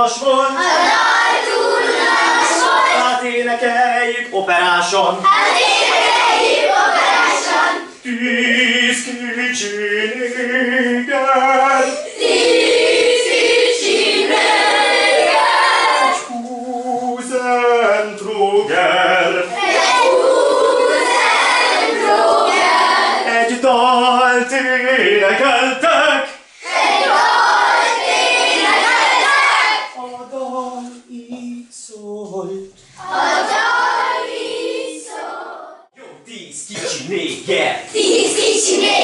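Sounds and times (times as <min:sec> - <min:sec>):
children and teacher singing: 0:00.0 - 0:35.9, 0:37.9 - 0:39.0.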